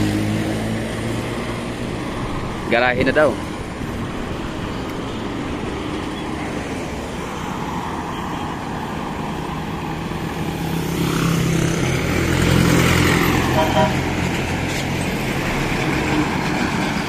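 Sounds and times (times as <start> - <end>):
highway traffic: 0.0 - 17.0
truck engine approaching: 0.0 - 17.0.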